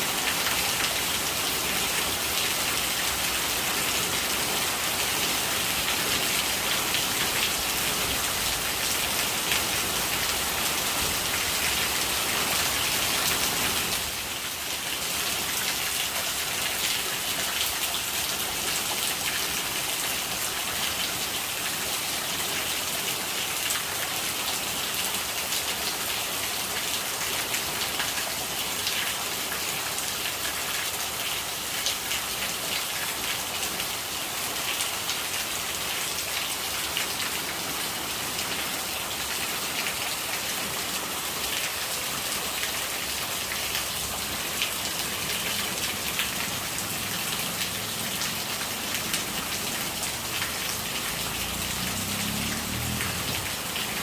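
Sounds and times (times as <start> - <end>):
rain falling: 0.0 - 54.0
running rainwater: 0.0 - 54.0.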